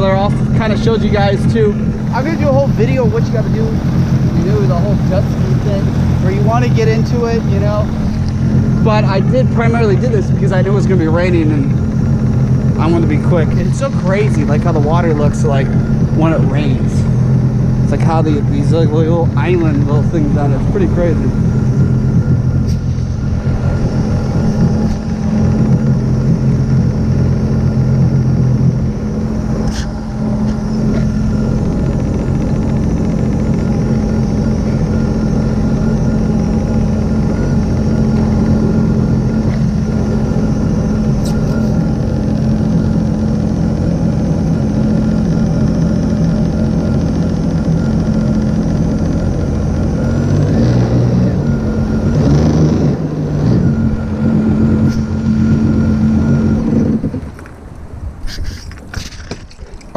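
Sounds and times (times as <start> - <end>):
jet ski engine idling: 0.0 - 59.9.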